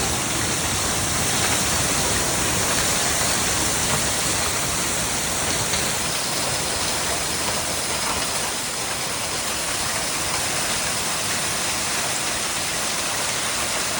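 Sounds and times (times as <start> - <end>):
heavy rain and wind: 0.0 - 13.9.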